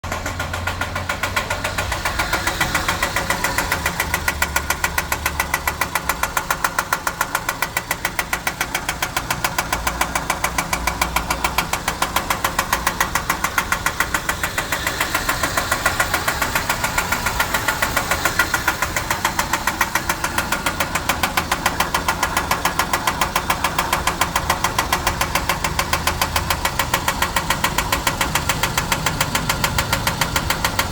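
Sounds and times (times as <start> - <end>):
car engine running: 0.0 - 30.9
rhythmic engine knock: 0.0 - 30.9.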